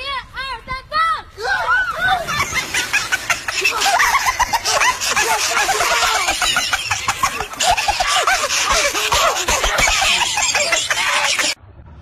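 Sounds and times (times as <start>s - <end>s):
crowd laughing and shrieking: 1.6s - 11.6s.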